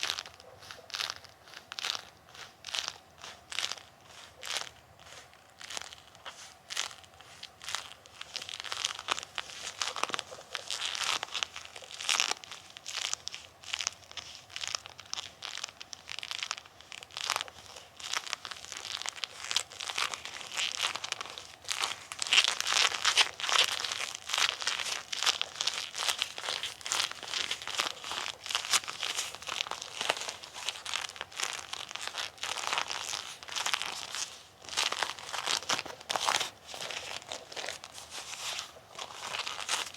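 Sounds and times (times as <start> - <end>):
rubber gloves rubbing and sticking: 0.0 - 39.9.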